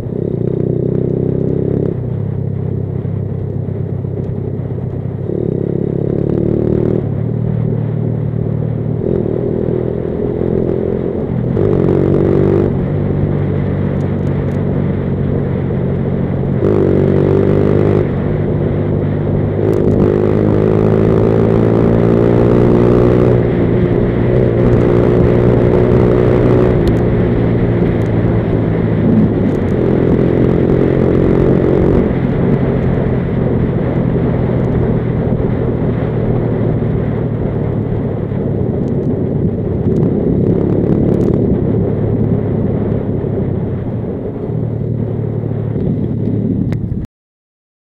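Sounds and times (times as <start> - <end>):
motorcycle engine running: 0.0 - 47.0
road rumble: 0.0 - 47.1
wind: 0.0 - 47.1.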